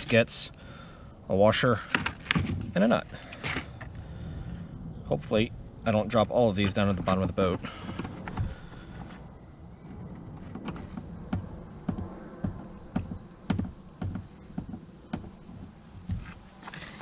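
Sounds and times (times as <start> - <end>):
faint insect chirring: 0.0 - 17.0.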